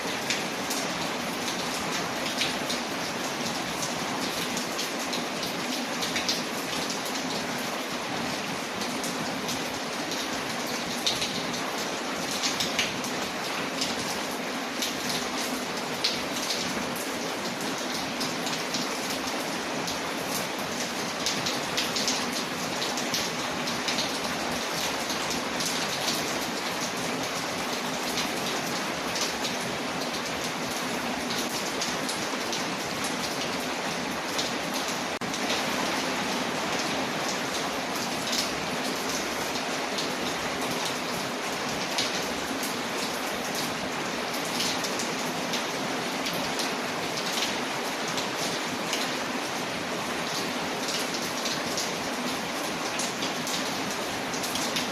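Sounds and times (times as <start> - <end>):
rain on a window: 0.0 - 54.9.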